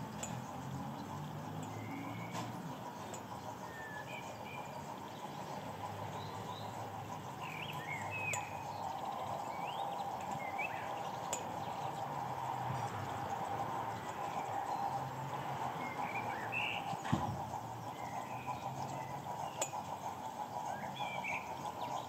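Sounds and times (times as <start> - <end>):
small birds chirping: 0.0 - 22.0
steady outdoor hum: 0.0 - 22.0.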